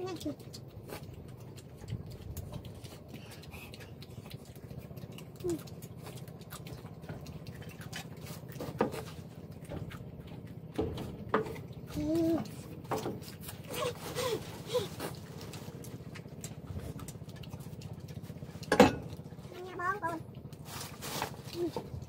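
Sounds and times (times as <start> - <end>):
low steady hum: 0.0 - 22.0
shrimp being peeled and chewed: 0.0 - 22.0.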